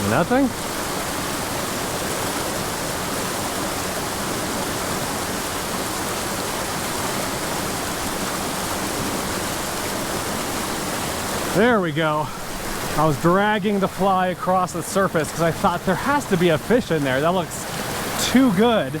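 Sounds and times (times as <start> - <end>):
creek rushing over boulders: 0.0 - 19.0.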